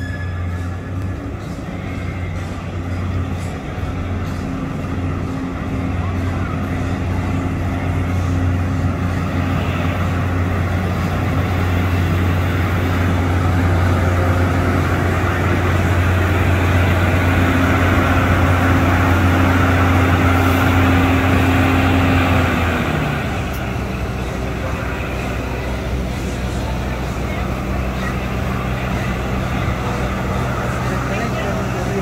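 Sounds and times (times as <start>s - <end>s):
rail car humming past: 0.0s - 32.0s.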